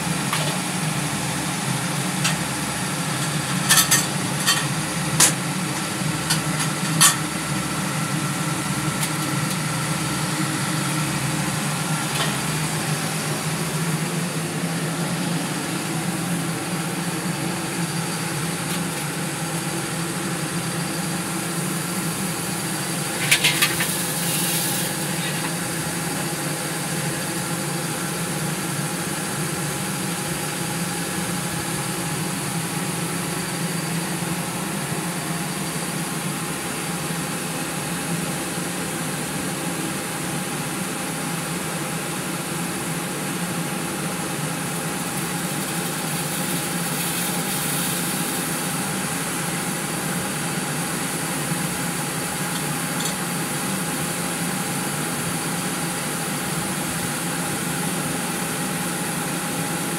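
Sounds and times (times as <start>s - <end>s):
rice sheller machine humming: 0.0s - 59.9s.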